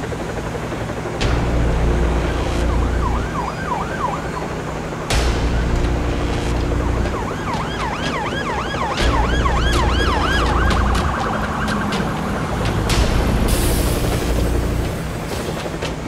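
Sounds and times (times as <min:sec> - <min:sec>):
emergency siren yelping: 0:01.5 - 0:15.8.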